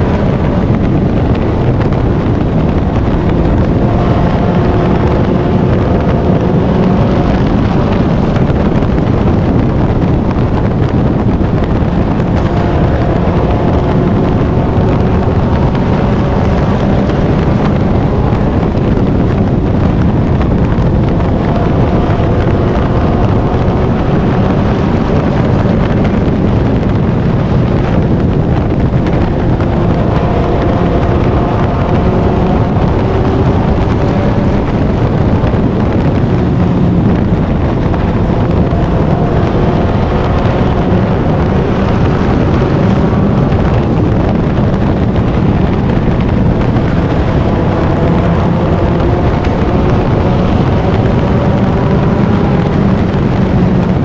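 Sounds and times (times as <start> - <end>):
race car engine: 0.0 - 54.0
wind and road noise: 0.0 - 54.0.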